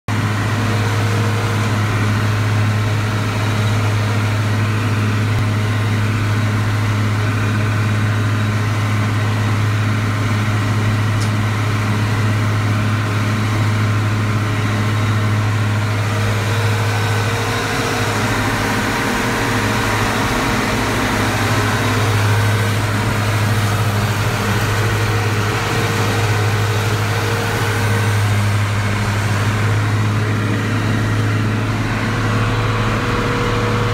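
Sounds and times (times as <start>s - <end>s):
tractor engine droning: 0.1s - 33.9s.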